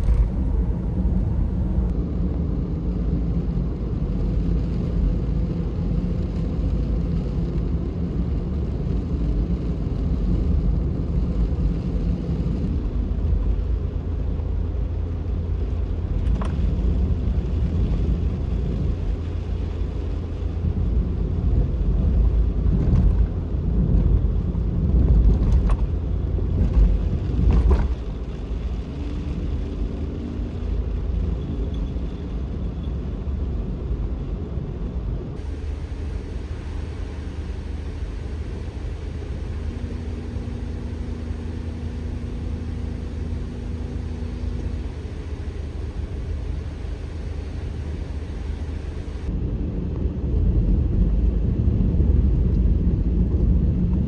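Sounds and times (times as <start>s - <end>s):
road and engine rumble in cabin: 0.0s - 54.0s.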